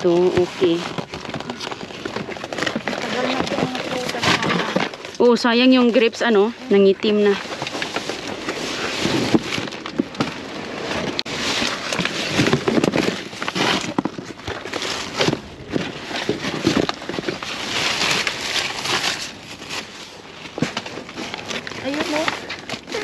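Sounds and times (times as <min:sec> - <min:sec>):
plastic bags and cardboard rustling: 0:00.0 - 0:23.0.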